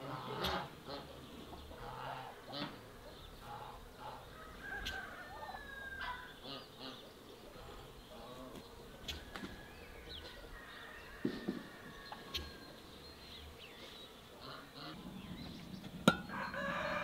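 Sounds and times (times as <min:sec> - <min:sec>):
poultry calling faintly: 0:00.0 - 0:17.0
small birds chirping: 0:00.0 - 0:17.0.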